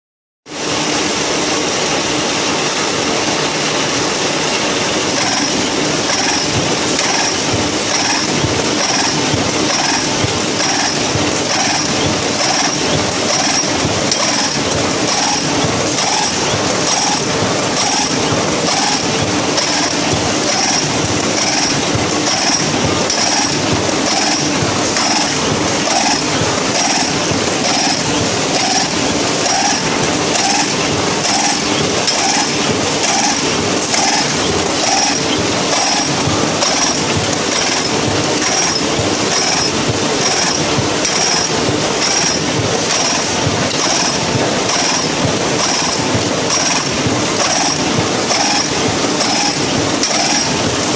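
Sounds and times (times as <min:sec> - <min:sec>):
steady machine hum: 0:00.5 - 0:50.9
metallic stitching strokes: 0:04.8 - 0:50.9.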